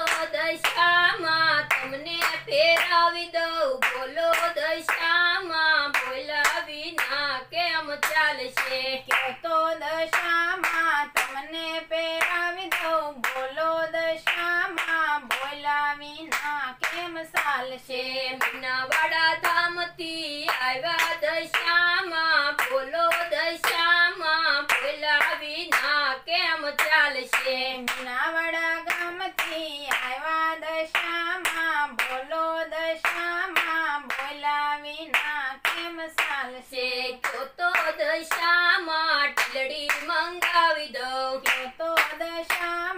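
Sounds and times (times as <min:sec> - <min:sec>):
hand clapping: 0:00.0 - 0:07.2, 0:07.8 - 0:19.8, 0:20.4 - 0:30.2, 0:30.8 - 0:32.4, 0:33.0 - 0:42.9
woman singing devotional song: 0:00.0 - 0:42.9.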